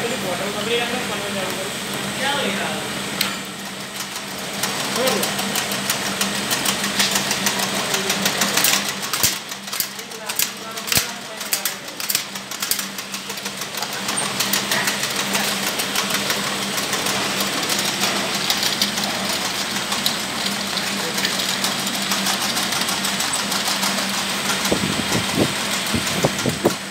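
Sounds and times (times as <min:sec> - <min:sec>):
motor hum: 0:00.0 - 0:26.9
fast machine clicking and clattering: 0:03.2 - 0:26.9.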